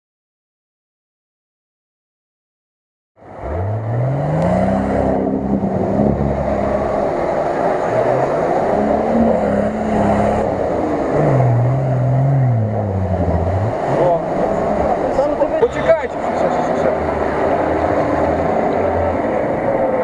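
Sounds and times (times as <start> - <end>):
engine revving hard: 3.3 - 20.0.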